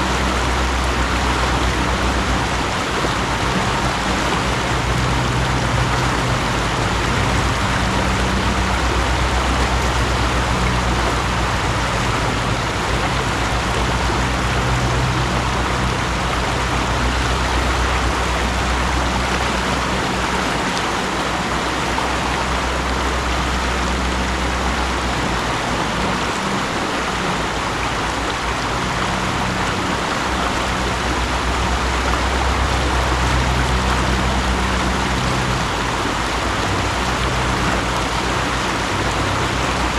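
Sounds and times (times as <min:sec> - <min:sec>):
low rumble: 0:00.0 - 0:39.9
mountain stream running: 0:00.0 - 0:39.9.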